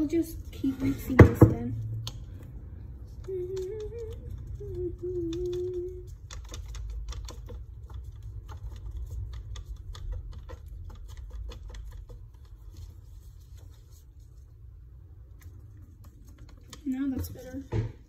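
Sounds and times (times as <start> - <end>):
stick stirring in paper cup: 0.0 - 17.8.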